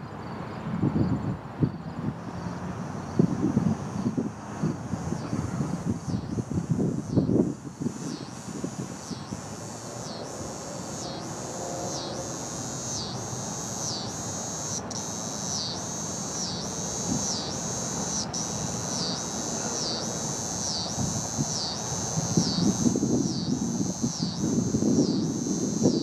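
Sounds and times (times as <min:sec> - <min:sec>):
insects calling in pulses: 0:02.2 - 0:26.0.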